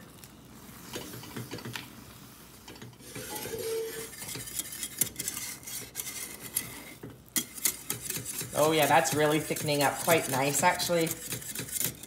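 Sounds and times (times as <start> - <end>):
sauce stirred in saucepan: 0.0 - 12.0
whisk scraping and clicking on pan: 0.2 - 12.0.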